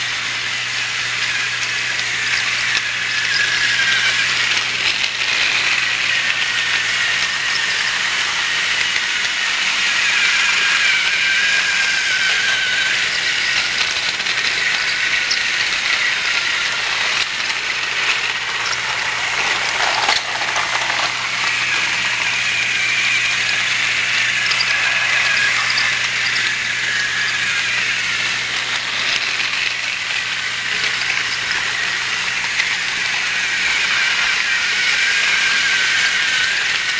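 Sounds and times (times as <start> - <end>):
toy motor whine: 0.0 - 36.9
mechanical rattle: 1.1 - 36.9.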